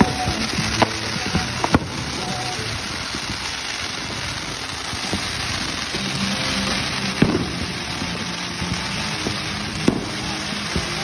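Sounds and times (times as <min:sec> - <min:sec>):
firework bang: 0:00.0 - 0:11.0
firework fountain hissing: 0:00.0 - 0:11.0
small firework pops: 0:00.0 - 0:11.0.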